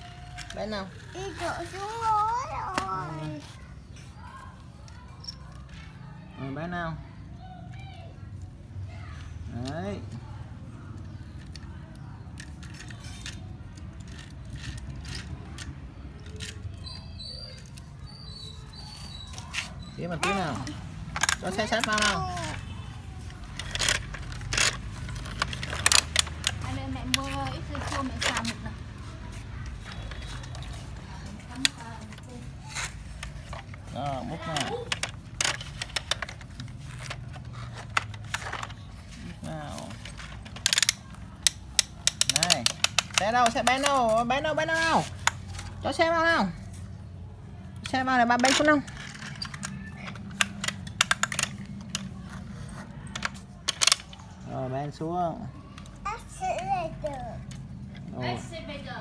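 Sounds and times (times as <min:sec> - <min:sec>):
plastic toy trucks clicking: 0:00.0 - 0:03.6, 0:09.2 - 0:46.2, 0:47.7 - 0:54.4.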